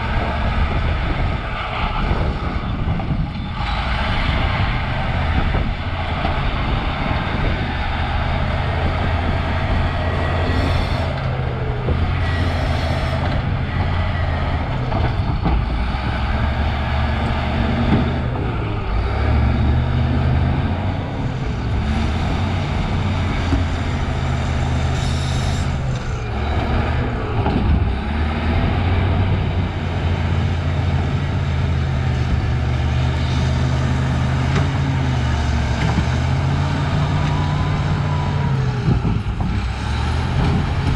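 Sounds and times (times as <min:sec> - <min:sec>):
bulldozer diesel engine working: 0:00.0 - 0:40.9.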